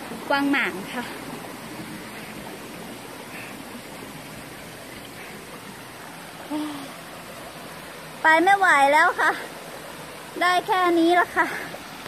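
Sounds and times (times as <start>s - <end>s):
water flowing over rocks: 0.0s - 12.0s.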